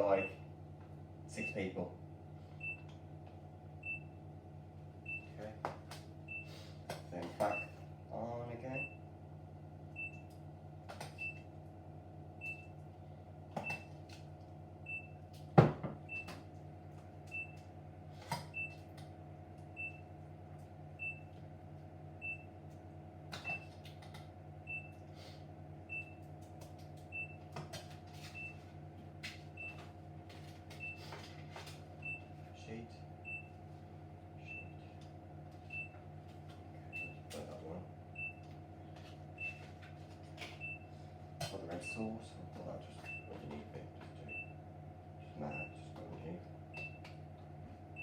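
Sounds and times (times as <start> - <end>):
electrical hum of appliance: 0.0 - 48.0.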